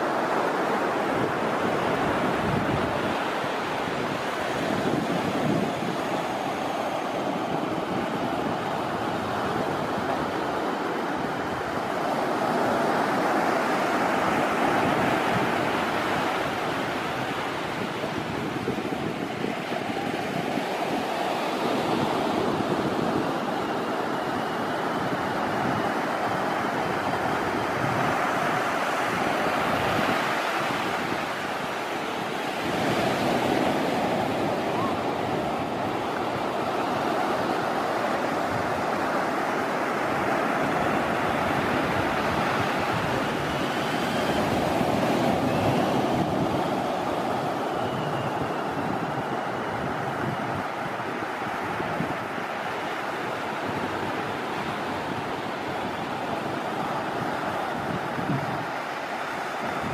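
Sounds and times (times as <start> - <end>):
sea surf: 0.0 - 59.9
wind buffeting microphone: 0.8 - 59.9.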